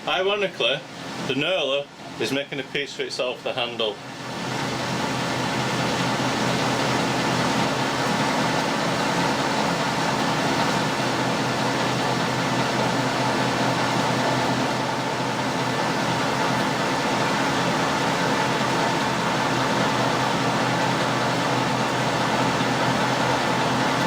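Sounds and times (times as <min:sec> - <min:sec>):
lathe hum and grind: 0:04.1 - 0:24.0.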